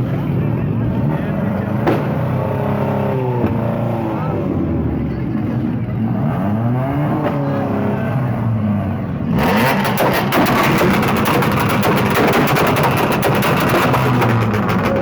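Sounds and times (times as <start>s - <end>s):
car engine revving: 0.1s - 15.0s.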